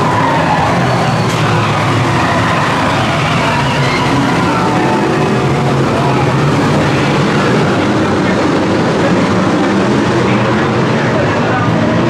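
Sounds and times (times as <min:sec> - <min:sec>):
race car engines roaring: 0:00.0 - 0:12.0.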